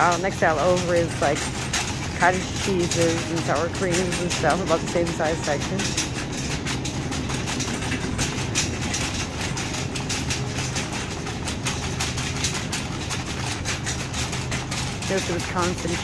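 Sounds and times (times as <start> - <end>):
cart wheels clicking: 0.0 - 16.0
shopping cart rolling on tiles: 0.0 - 16.0
steady low hum: 0.0 - 16.0
wire basket rattling: 0.0 - 16.0.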